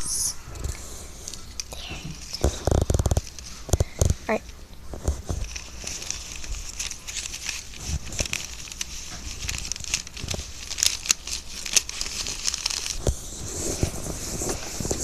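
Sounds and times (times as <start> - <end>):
crinkly material rustling: 1.3 - 15.0.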